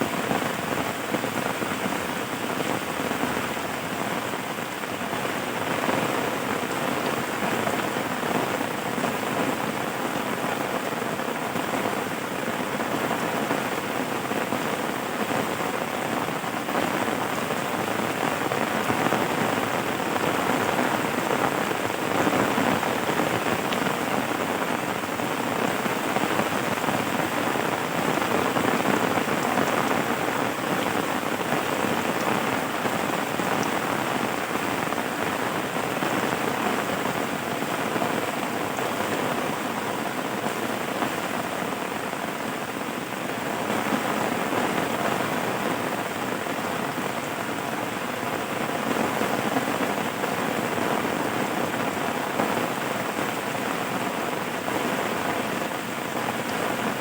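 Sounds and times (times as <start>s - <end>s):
dense rainfall hiss: 0.0s - 57.0s.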